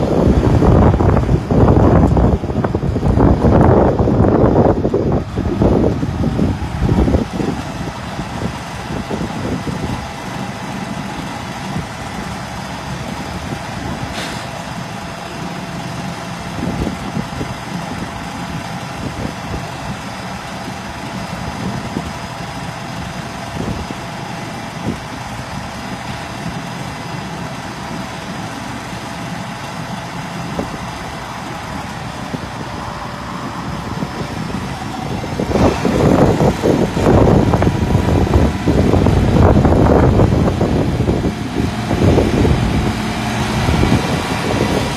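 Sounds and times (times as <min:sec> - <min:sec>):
diesel tractor idling: 0:00.0 - 0:44.9.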